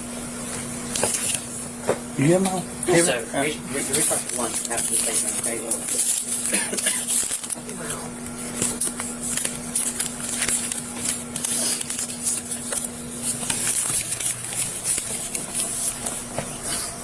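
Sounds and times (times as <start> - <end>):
steady low hum: 0.0 - 17.0
rustling handling noise: 3.0 - 17.0.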